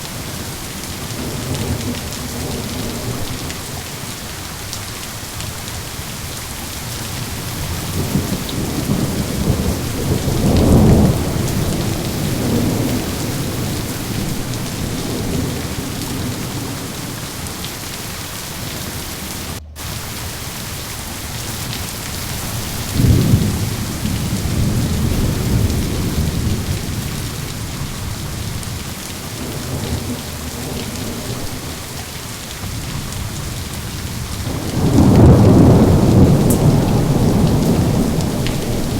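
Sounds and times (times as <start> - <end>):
heavy rain: 0.0 - 38.9
rolling thunder: 0.0 - 38.9.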